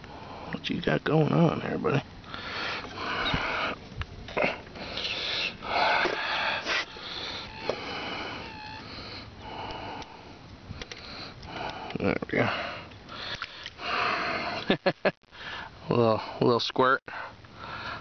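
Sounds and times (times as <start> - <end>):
man breathing hard through nose: 0.0 - 0.6, 2.2 - 16.4, 17.1 - 18.0.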